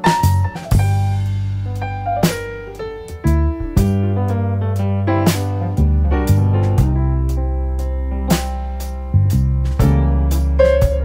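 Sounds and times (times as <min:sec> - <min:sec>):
instrumental music with drums and bass: 0:00.0 - 0:11.0.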